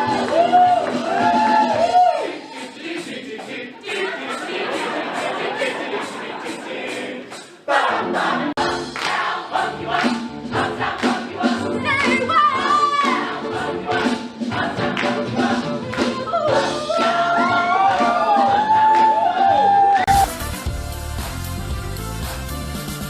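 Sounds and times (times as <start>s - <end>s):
choir singing over accompaniment: 0.0s - 19.6s.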